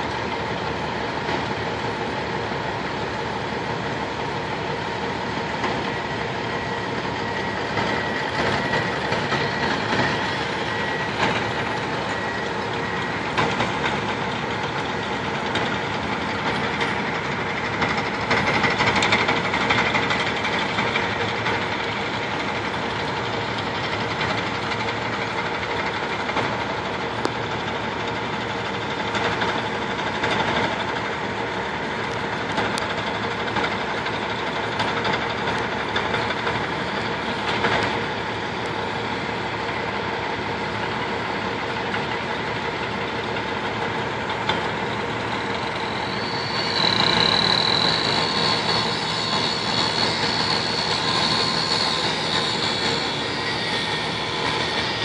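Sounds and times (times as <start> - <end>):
diesel engines running: 0.0 - 55.0
steel tracks clattering: 0.0 - 55.0.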